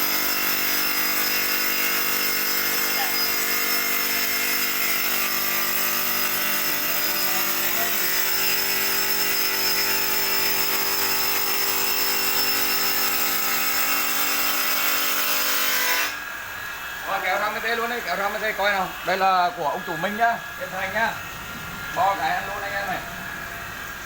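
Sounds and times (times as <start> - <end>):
stone cutting machine whining: 0.0 - 24.0.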